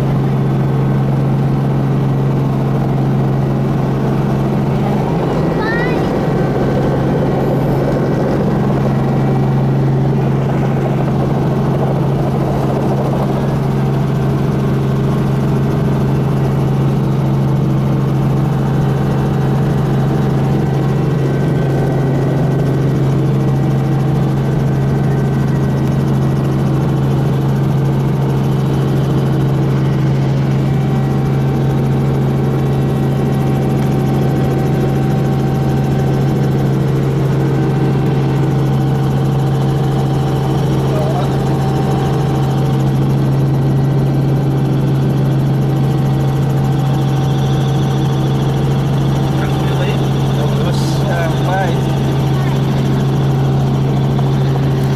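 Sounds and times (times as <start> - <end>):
helicopter drone: 0.0 - 54.9.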